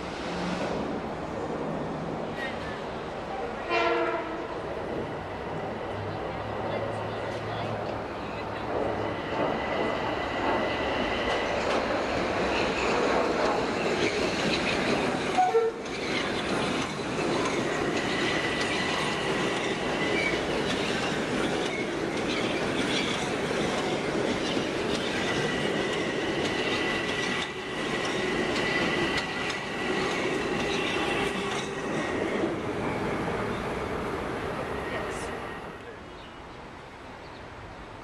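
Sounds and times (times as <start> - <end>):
train wheels rumbling on rails: 3.7 - 35.8.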